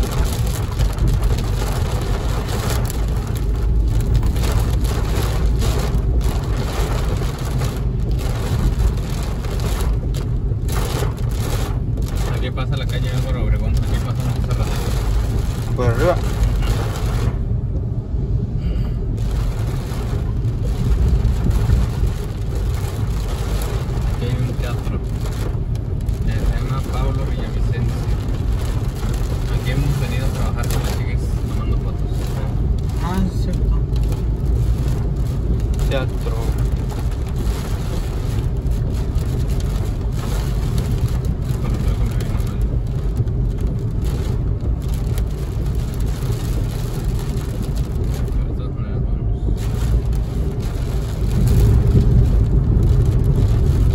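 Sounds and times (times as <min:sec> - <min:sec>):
car interior rumble on wet road: 0:00.0 - 0:53.9
rain hitting windshield: 0:00.0 - 0:53.9.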